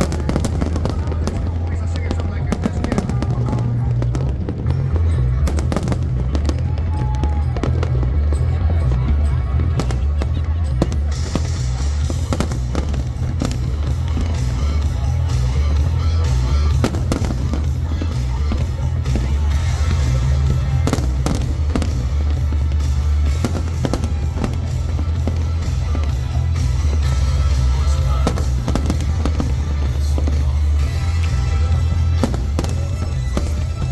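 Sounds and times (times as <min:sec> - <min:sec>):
deep rumble: 0:00.0 - 0:33.9
fireworks bangs and crackles: 0:00.0 - 0:33.9
music playing: 0:00.0 - 0:33.9.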